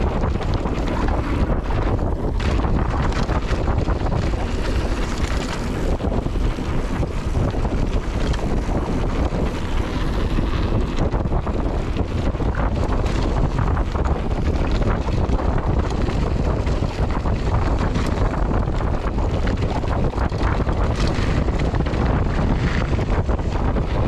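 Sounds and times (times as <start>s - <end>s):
bike knocks and rattles: 0.0s - 24.0s
bike tyre noise: 0.0s - 24.0s
wind buffeting microphone: 0.0s - 24.0s.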